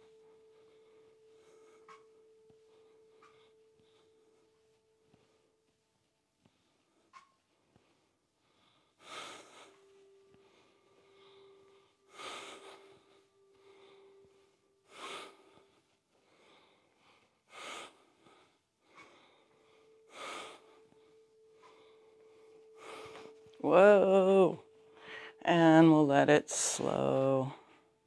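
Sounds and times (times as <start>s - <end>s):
woman breathing strongly: 0.0s - 5.8s, 6.4s - 23.6s, 24.3s - 25.4s.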